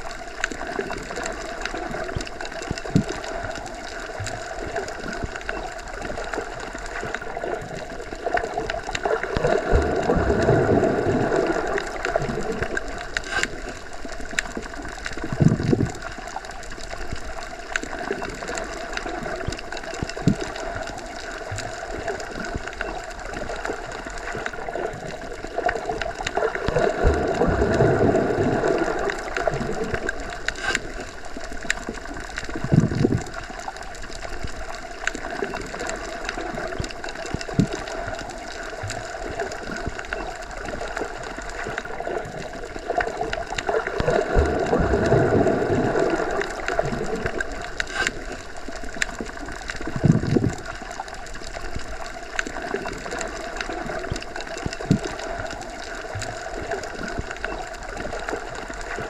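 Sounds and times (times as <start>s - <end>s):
low water surges: 0.0s - 59.0s
steady underwater hum: 0.0s - 59.0s
underwater rushing and gurgling: 0.0s - 59.0s.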